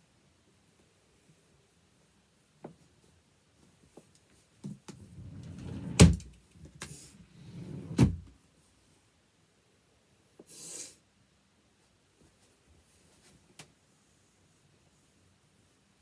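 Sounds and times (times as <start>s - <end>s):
soft rush of noise: 0.0s - 16.0s
clothes rustling and shuffling: 0.5s - 9.1s, 11.7s - 16.0s.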